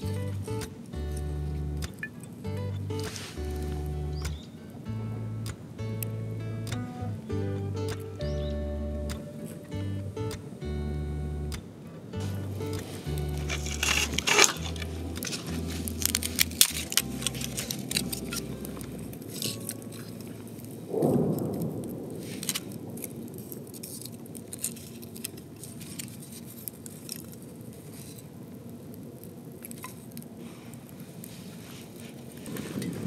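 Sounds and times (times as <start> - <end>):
soft whoosh of flames: 0.0 - 8.2, 11.4 - 33.0
wood fire crackling and popping: 0.0 - 33.0.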